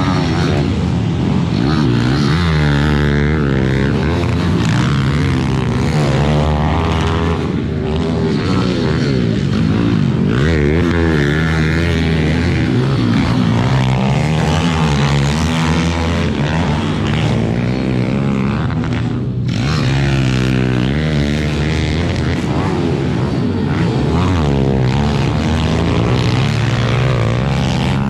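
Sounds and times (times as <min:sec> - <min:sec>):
small motorbike engines revving: 0:00.0 - 0:28.0.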